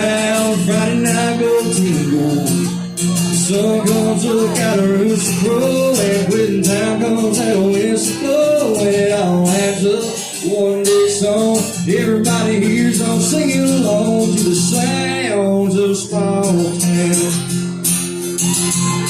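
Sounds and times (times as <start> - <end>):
country song with acoustic guitar: 0.0 - 19.0.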